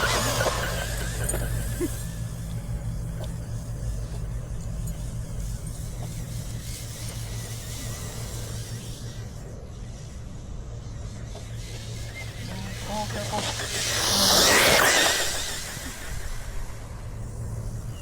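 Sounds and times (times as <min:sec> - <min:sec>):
faint high whine: 0:00.0 - 0:18.0
low mechanical hum: 0:00.0 - 0:18.0.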